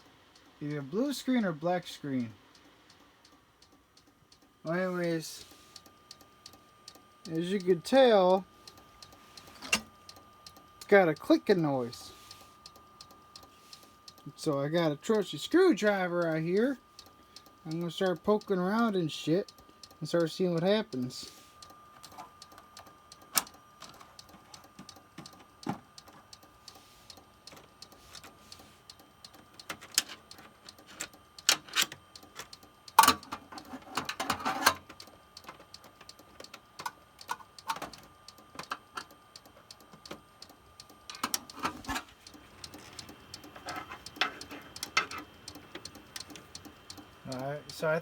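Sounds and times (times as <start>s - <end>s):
computer whine: 4.6s - 48.0s.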